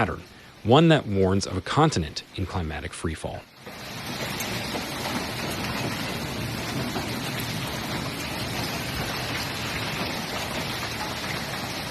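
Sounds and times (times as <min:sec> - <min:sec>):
heavy rain on hard surfaces: 0:00.0 - 0:11.9.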